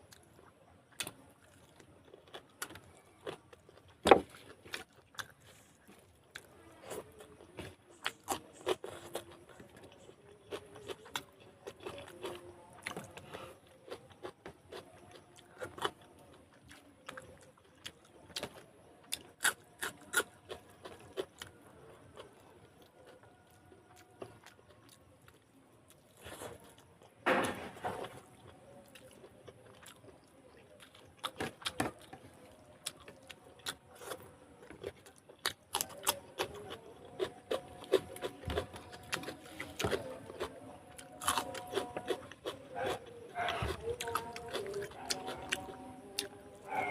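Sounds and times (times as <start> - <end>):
chewing: 0.1 - 46.9.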